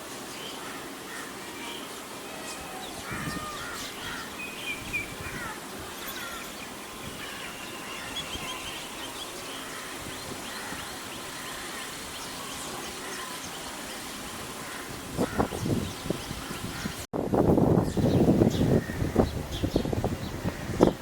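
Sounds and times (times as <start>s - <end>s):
steady background hiss: 0.0s - 17.1s
small birds chirping: 0.1s - 17.0s.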